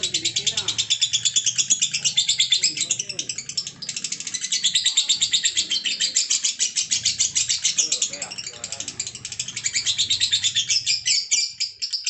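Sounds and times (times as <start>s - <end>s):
lovebird rapid high chirps: 0.0s - 12.0s.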